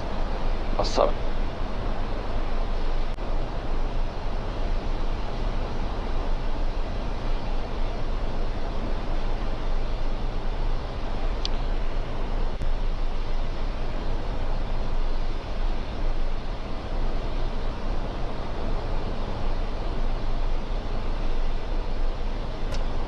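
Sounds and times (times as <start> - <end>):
cockpit airflow rushing: 0.0 - 23.0.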